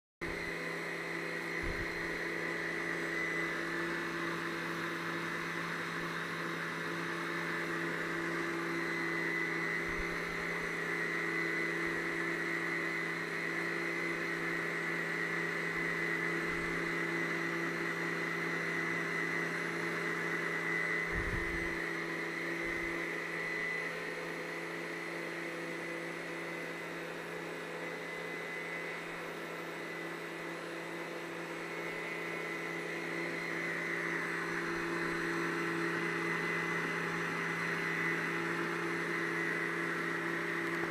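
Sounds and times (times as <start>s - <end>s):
beater mixing batter in metal bowl: 0.2s - 40.9s
electric stand mixer motor whining: 0.2s - 40.9s.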